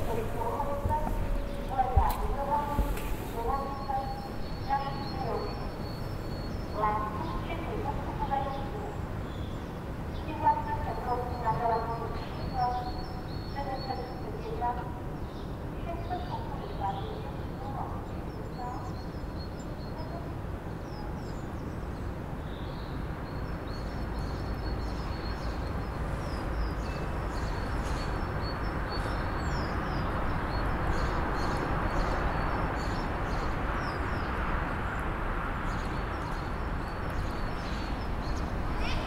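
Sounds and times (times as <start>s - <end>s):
small birds chirping: 0.0s - 39.0s
traffic rumble: 0.0s - 39.0s.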